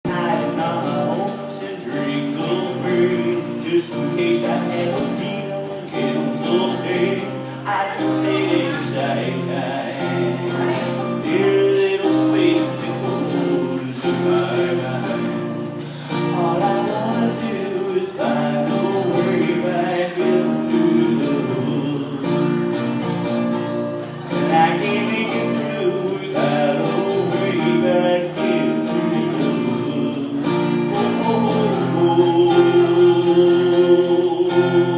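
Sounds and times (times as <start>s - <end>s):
person singing: 0.0s - 22.8s, 24.1s - 34.9s
guitar accompaniment: 0.0s - 34.9s.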